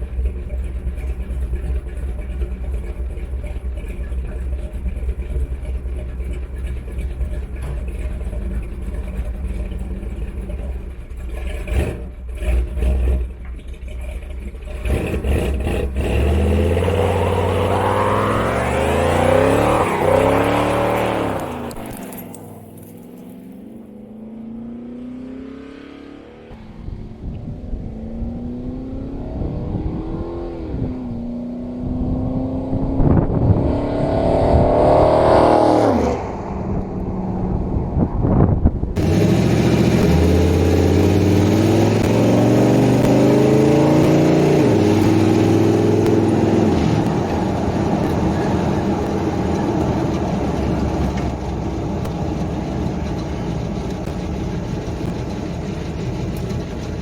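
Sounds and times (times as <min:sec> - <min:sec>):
truck engine revving: 0:00.0 - 0:26.7, 0:27.8 - 0:57.0.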